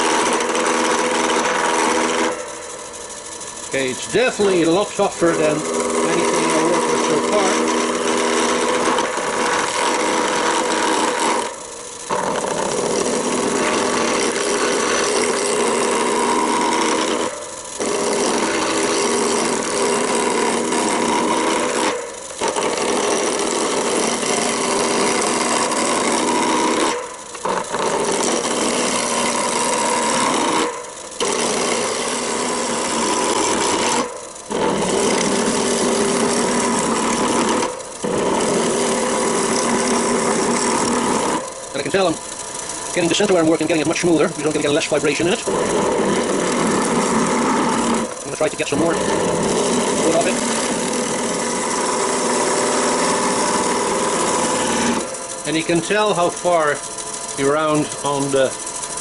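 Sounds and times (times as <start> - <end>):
gouge cutting wood on lathe: 0.0 - 59.0
lathe humming: 0.0 - 59.0.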